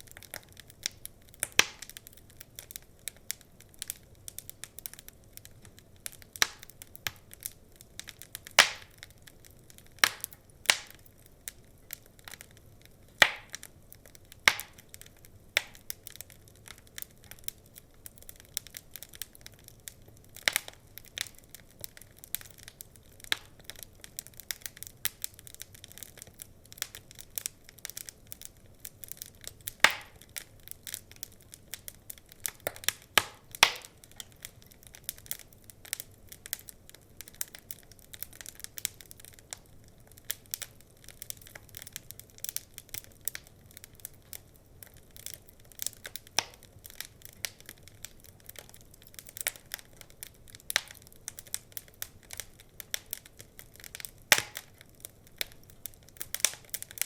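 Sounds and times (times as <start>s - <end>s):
wood fire crackling in fireplace: 0.0s - 57.0s.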